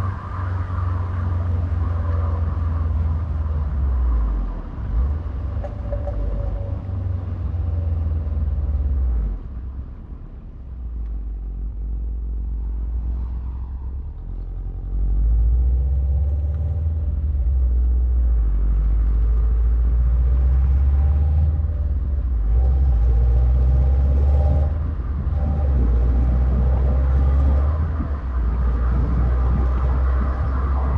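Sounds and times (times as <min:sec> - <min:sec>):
car engine deep rumble: 0:00.0 - 0:30.9.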